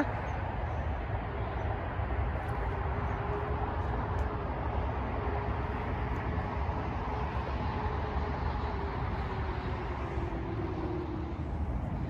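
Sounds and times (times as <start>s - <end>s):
distant road traffic rumble: 0.0s - 12.0s
faint steady hum: 0.0s - 12.0s.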